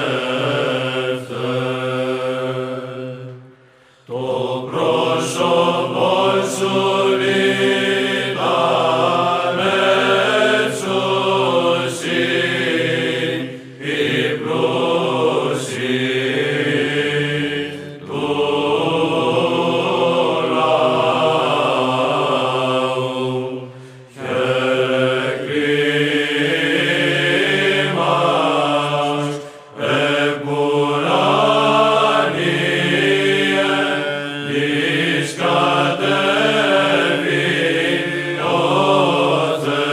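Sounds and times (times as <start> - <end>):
chant melody: 0.0 - 39.9.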